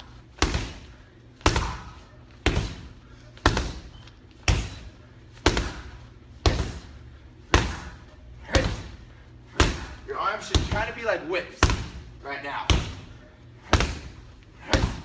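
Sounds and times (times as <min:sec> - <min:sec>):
punches thudding on heavy bag: 0:00.4 - 0:06.9, 0:07.5 - 0:15.0.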